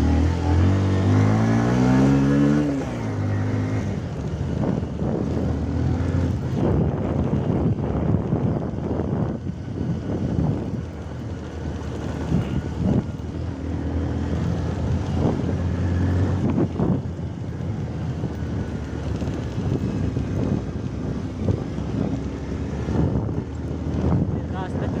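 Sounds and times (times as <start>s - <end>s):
vehicle engine running: 0.0s - 25.0s
wind buffeting microphone: 0.5s - 25.0s.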